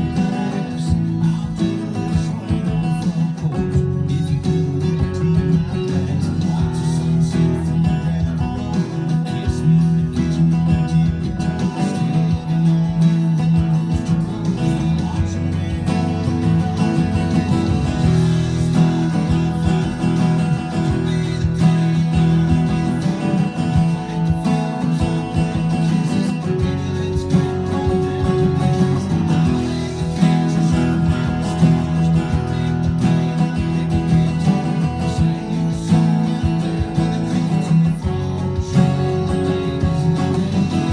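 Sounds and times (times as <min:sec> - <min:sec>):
acoustic guitar strumming: 0:00.0 - 0:40.9.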